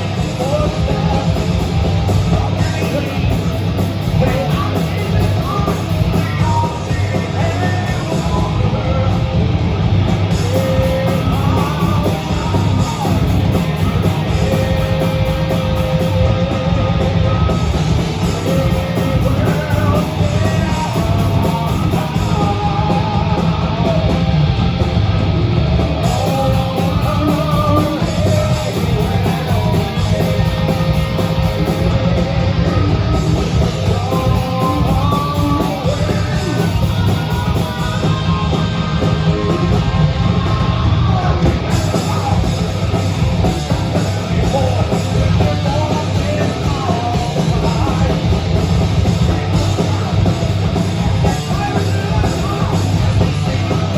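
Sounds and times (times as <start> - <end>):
live rock band playing: 0.0 - 53.9
person singing: 2.2 - 9.4, 10.3 - 24.3, 26.0 - 53.9.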